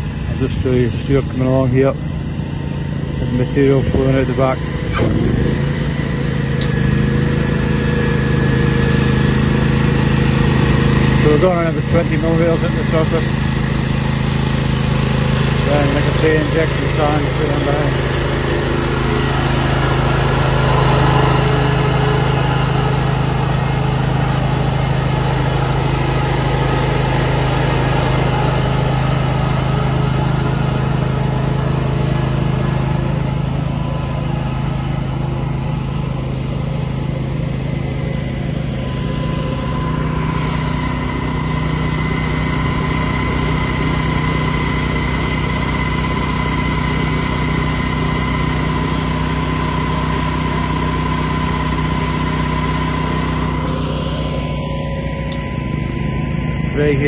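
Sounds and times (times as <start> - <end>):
scarifier petrol engine running: 0.0 - 57.0
blades slicing turf: 4.6 - 54.5.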